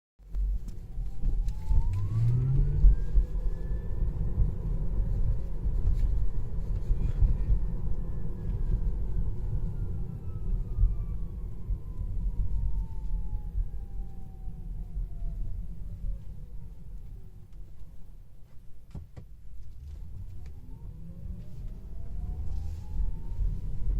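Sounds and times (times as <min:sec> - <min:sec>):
road rumble: 0:00.2 - 0:23.9.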